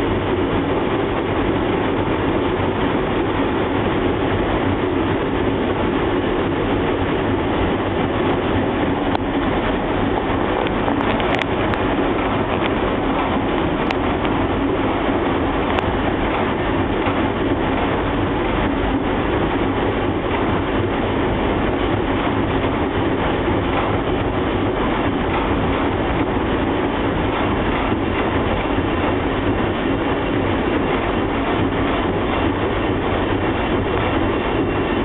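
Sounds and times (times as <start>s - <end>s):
washing machine drum spinning: 0.0s - 35.0s.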